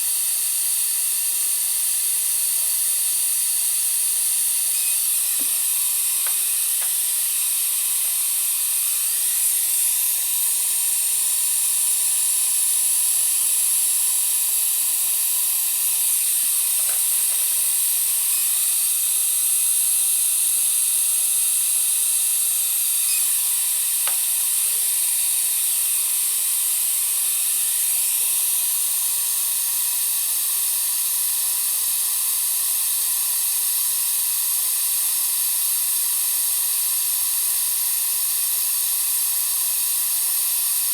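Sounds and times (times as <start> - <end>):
dental equipment hissing: 0.0 - 40.9.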